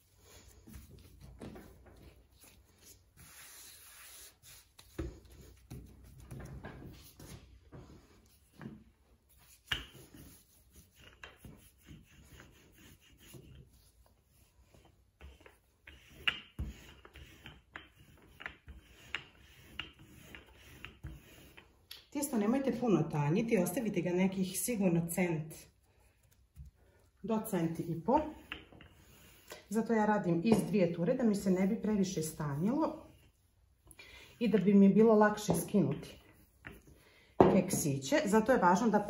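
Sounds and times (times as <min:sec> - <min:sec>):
rolling pin rolling dough: 0:00.0 - 0:22.8, 0:26.1 - 0:33.7, 0:34.3 - 0:39.0.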